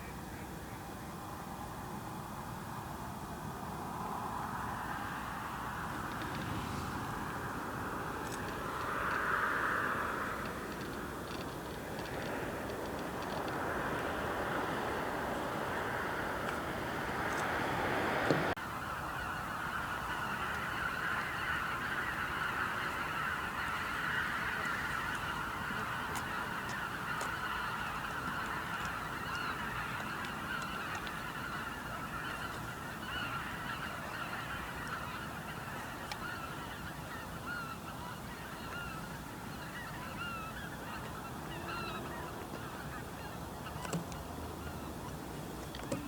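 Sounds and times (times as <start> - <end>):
flock of ducks clucking: 5.7 - 46.0.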